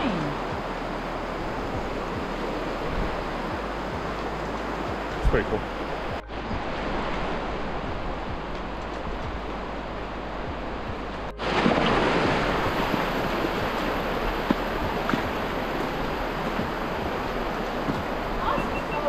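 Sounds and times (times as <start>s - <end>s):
river rushing over rocks: 0.0s - 19.0s
wind on microphone: 0.0s - 19.0s.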